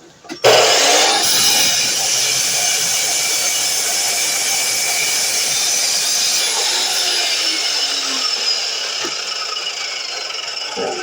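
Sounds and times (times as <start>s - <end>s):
miter saw running: 0.4s - 11.0s.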